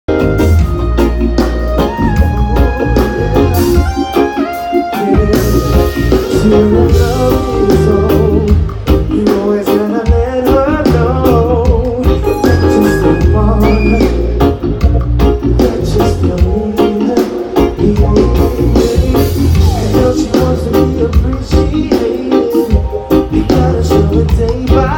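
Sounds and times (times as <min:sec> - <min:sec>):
bass guitar: 0:00.0 - 0:24.9
drums: 0:00.0 - 0:24.9
electric guitar: 0:00.1 - 0:24.9
person singing: 0:04.9 - 0:24.9.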